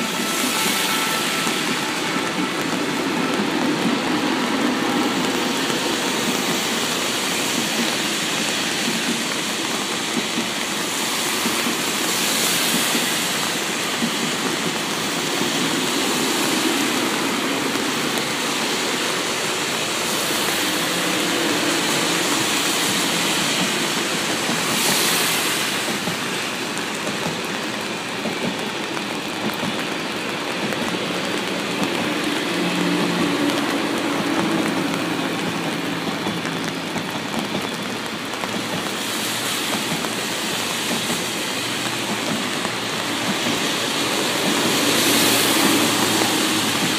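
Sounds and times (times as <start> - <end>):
high-speed trains rushing past: 0.0 - 46.9.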